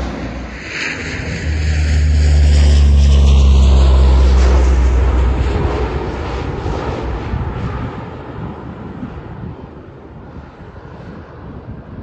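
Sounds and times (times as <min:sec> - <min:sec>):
propeller aircraft drone: 0:00.0 - 0:12.0.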